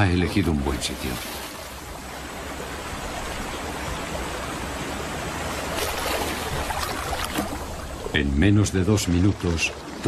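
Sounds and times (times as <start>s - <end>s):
river water splashing and churning: 0.0s - 10.0s.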